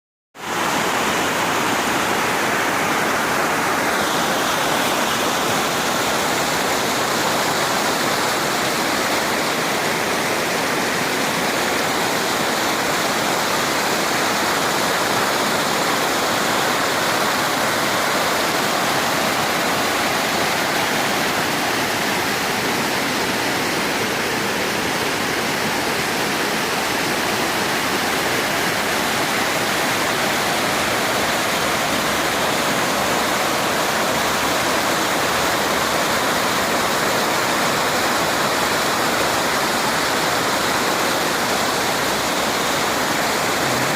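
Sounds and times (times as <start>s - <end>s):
waterfall rushing: 0.4s - 43.9s.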